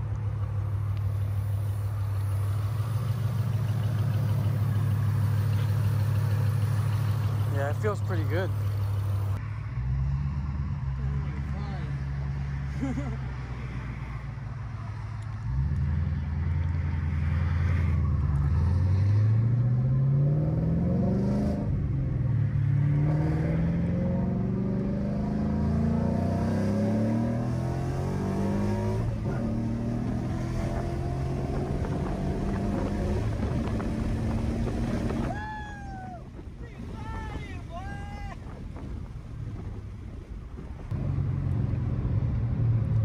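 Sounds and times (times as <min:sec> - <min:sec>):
car engine accelerating hard: 0:00.0 - 0:37.3, 0:38.5 - 0:43.0.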